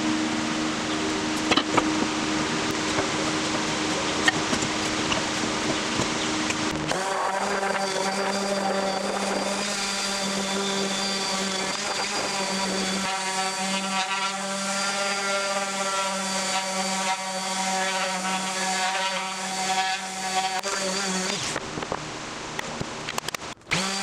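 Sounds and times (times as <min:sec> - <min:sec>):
orbit sander on wood: 0:00.0 - 0:23.0, 0:23.7 - 0:24.0.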